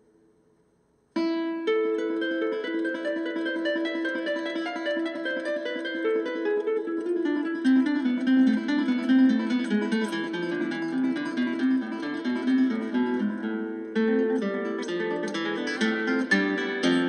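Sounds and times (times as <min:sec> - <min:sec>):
plucked acoustic guitar melody: 0:01.2 - 0:17.0.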